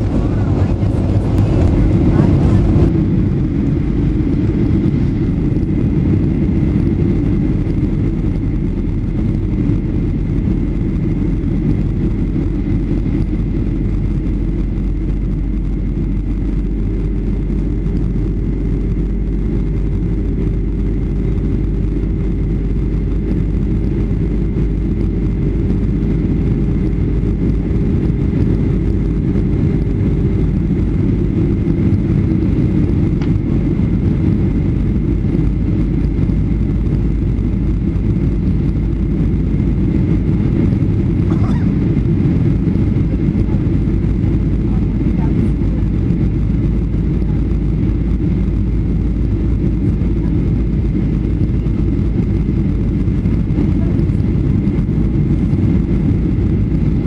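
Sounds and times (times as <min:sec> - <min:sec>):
aircraft cabin engine rumble: 0:00.0 - 0:57.0
low steady hum: 0:00.0 - 0:57.0.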